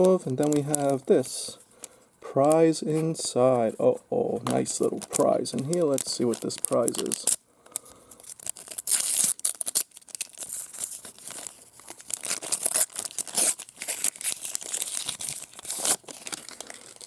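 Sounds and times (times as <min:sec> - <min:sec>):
packaging tearing and crinkling: 0:00.0 - 0:01.5, 0:04.5 - 0:17.0.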